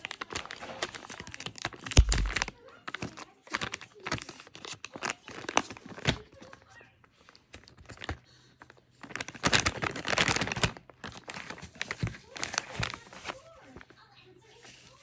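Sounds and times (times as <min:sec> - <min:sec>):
plastic packaging clicks and knocks: 0:00.0 - 0:06.6, 0:07.5 - 0:13.4
plastic crinkling: 0:00.0 - 0:15.0.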